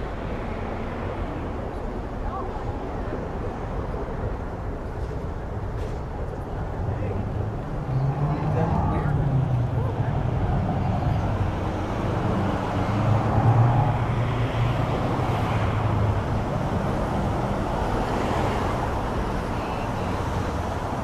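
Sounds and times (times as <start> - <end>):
passing vehicles: 0.0 - 21.0.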